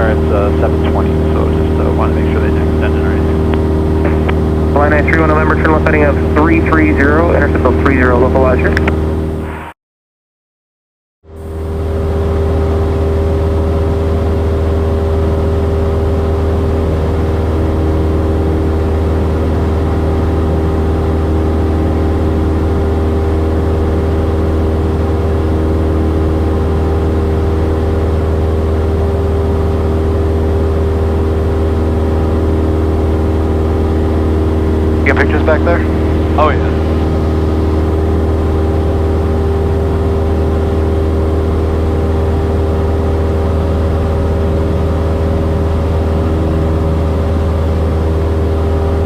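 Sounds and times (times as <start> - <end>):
airplane engine and propeller droning: 0.0 - 9.8, 11.3 - 49.0.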